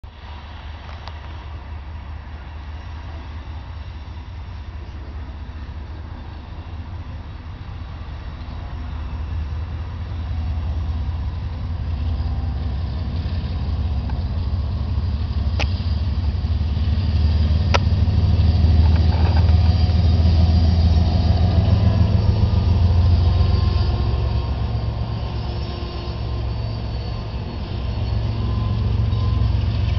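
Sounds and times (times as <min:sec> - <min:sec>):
diesel locomotives rumbling: 0:00.0 - 0:29.9.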